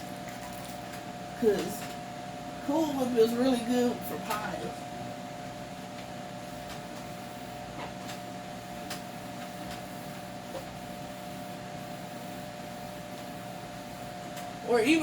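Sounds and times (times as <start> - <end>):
electrical appliance hum: 0.0 - 15.0.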